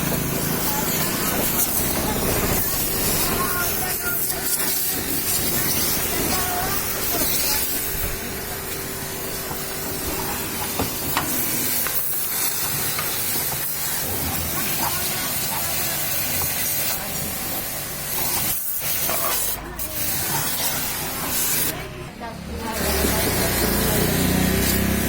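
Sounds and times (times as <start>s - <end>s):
water jet spraying: 0.0s - 22.0s, 22.6s - 25.0s.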